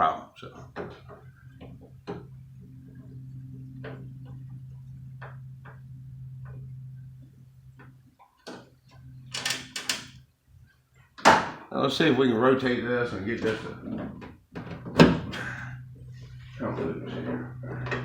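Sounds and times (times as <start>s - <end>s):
low hum: 0.5s - 11.1s, 12.3s - 18.0s.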